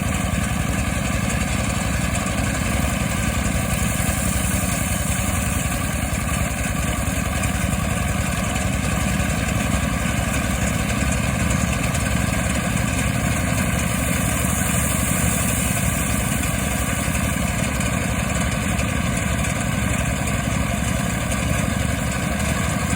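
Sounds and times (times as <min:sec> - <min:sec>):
threshing machine engine running: 0:00.0 - 0:22.9.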